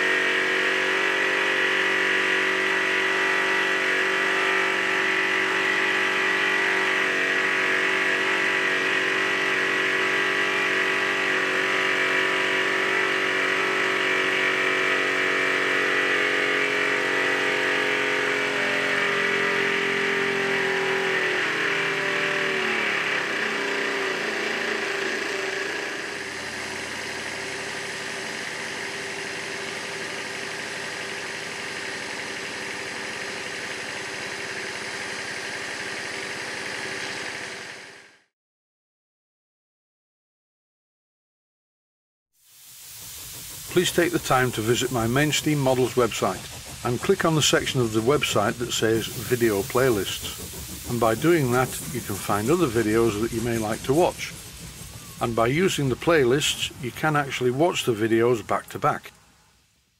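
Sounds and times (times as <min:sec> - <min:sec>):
model steam engines running: 0:00.0 - 0:38.3, 0:42.4 - 0:59.6.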